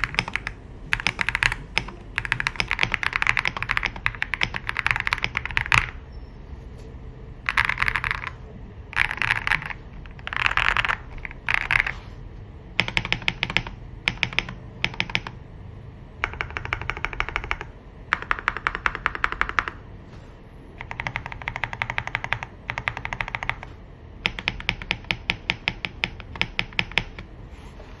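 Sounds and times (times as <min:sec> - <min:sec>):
mechanical keyboard typing: 0:00.0 - 0:06.1, 0:07.4 - 0:12.0, 0:12.8 - 0:15.4, 0:16.2 - 0:19.8, 0:20.8 - 0:27.3.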